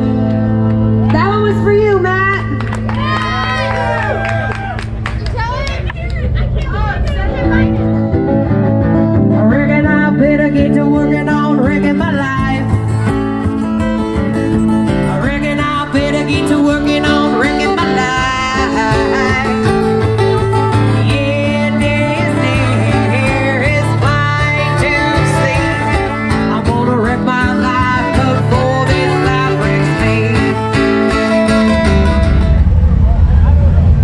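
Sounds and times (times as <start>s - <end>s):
live country band playing: 0.0s - 4.3s, 7.2s - 32.7s
strummed guitars: 0.0s - 5.8s, 6.5s - 33.3s.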